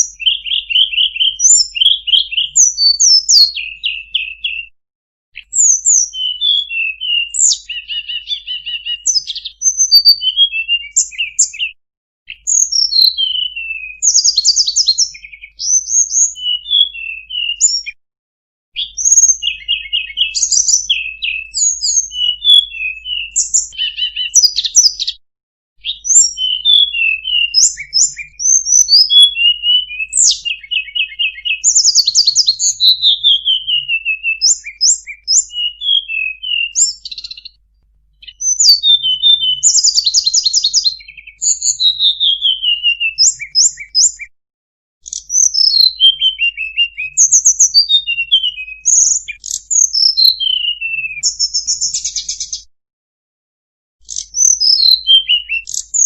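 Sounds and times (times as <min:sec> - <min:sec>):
songbird chirping and trilling: 0:00.0 - 0:04.8, 0:05.4 - 0:18.0, 0:18.8 - 0:25.2, 0:25.8 - 0:37.6, 0:38.2 - 0:44.3, 0:45.0 - 0:52.7, 0:54.0 - 0:56.0.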